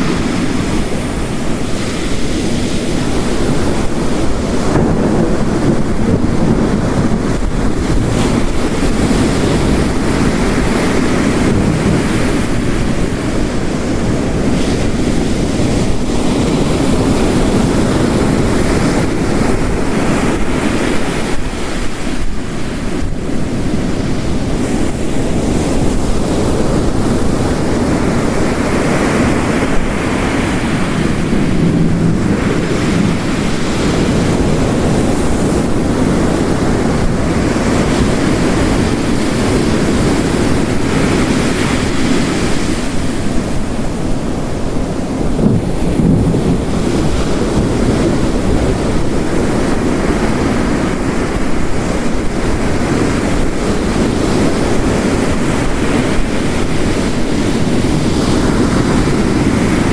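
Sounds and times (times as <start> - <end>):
heavy rain: 0.0 - 59.9
waves breaking on rocky shore: 0.0 - 59.9.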